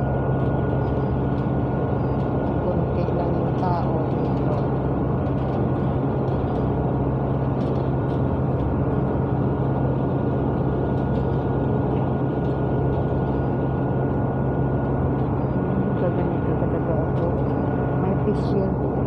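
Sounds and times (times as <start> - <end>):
bus engine drone: 0.0 - 19.0
constant thin whine: 0.0 - 19.0.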